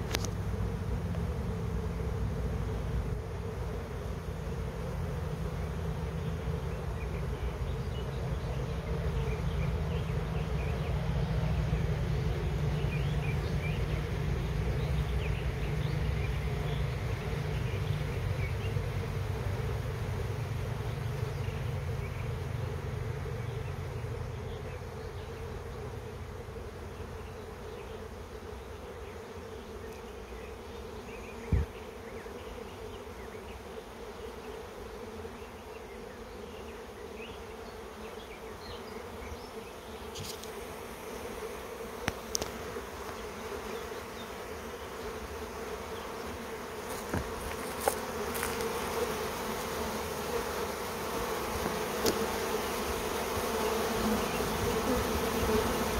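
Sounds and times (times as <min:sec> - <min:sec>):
buzzing hum of bee swarm: 0:00.0 - 0:55.9.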